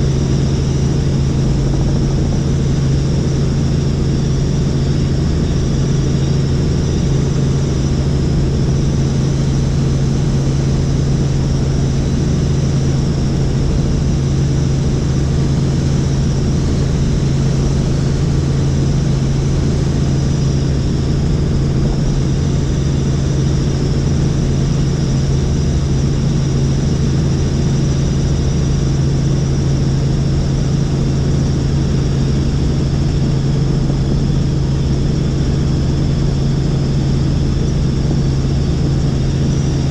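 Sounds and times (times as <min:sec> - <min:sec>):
helicopter engine and rotor drone: 0:00.0 - 0:39.9
high turbine whine: 0:00.0 - 0:39.9.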